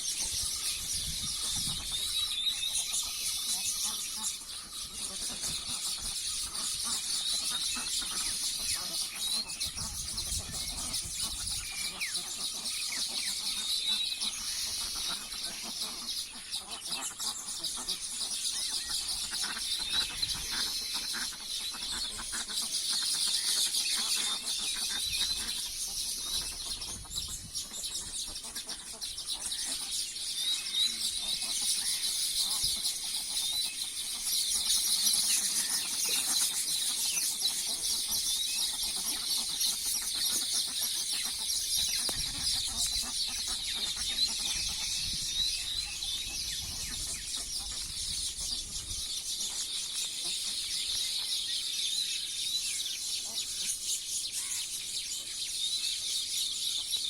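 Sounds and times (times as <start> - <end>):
fowl calling and clucking: 0.0 - 55.6.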